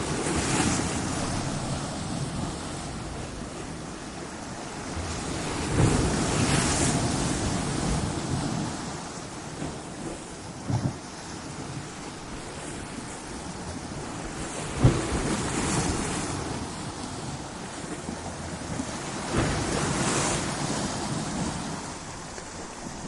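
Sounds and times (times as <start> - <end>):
surf washing: 0.0 - 23.0
waves crashing on rocks: 0.0 - 23.0.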